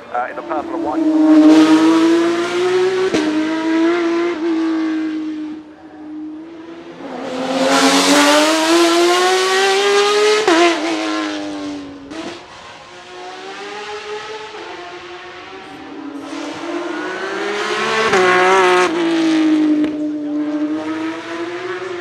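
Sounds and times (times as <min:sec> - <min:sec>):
racing car engine accelerating: 0:00.0 - 0:22.0.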